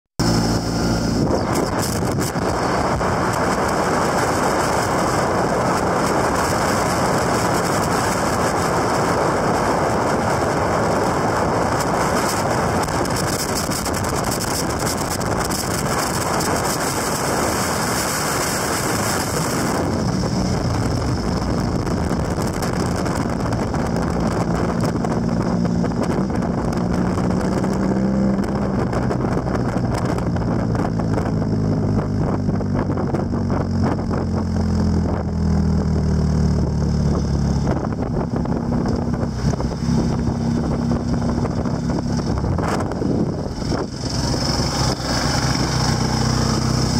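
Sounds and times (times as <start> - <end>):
motorcycle engine running: 0.2 - 46.9
wind rushing over microphone: 0.2 - 46.9.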